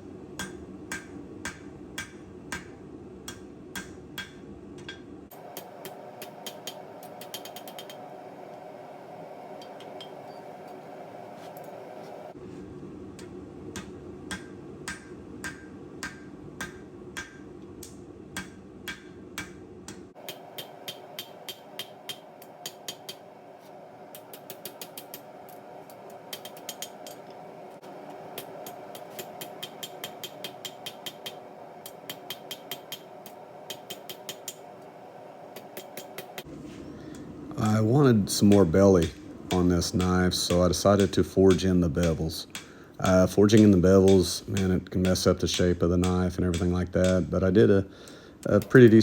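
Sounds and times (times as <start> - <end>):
background hum: 0.0 - 49.0.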